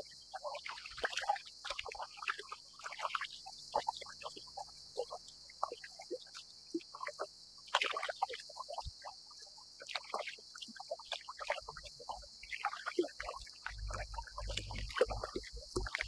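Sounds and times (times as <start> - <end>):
waves lapping against kayak hull: 0.0 - 16.0.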